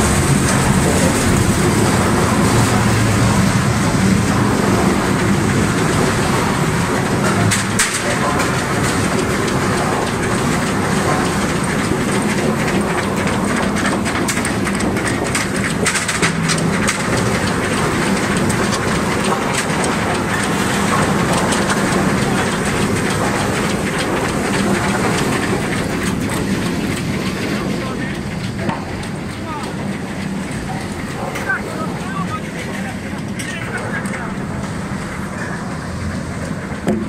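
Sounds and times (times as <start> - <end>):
logs knocking against rollers: 0.0 - 37.0.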